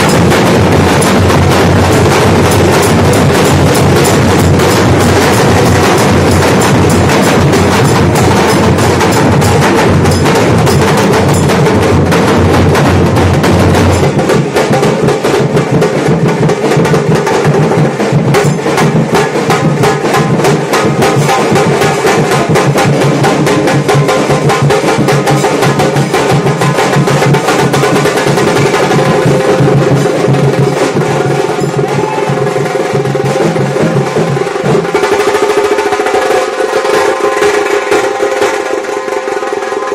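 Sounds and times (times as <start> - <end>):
dhol drums beaten with sticks: 0.0 - 39.9.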